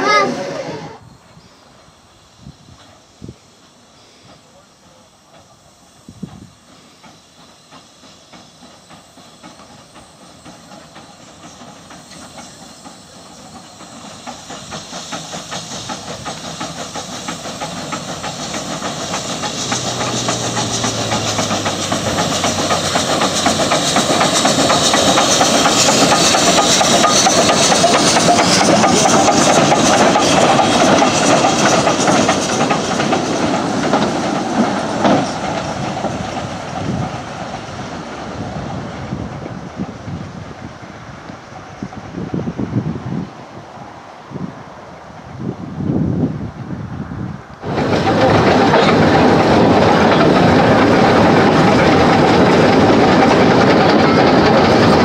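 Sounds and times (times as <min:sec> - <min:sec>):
carriages rolling on rails: 0:00.0 - 0:01.0, 0:01.8 - 0:55.0
steam hissing: 0:00.0 - 0:55.0
steam locomotive exhaust beats: 0:00.0 - 0:55.0.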